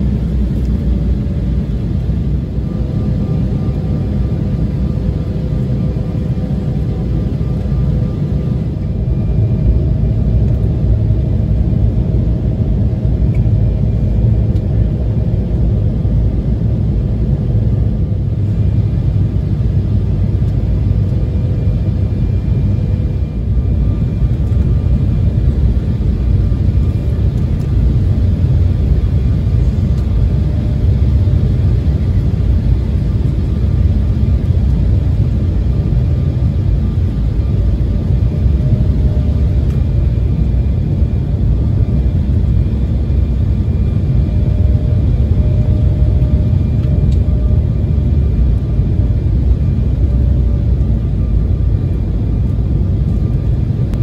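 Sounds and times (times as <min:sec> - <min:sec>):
faint jet engine whine: 0:00.0 - 0:54.0
low rumble of airflow and engines: 0:00.0 - 0:54.0.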